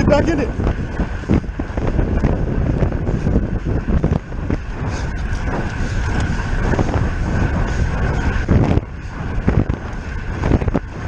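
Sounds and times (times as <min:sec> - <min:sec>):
heavy low rumble: 0:00.0 - 0:11.0
wind buffeting microphone: 0:00.0 - 0:11.0.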